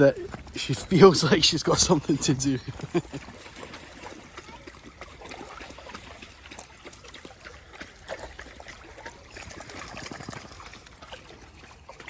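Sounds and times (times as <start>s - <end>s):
water trickling in stream: 0.0s - 12.0s
small clicks and splashes: 2.1s - 12.0s.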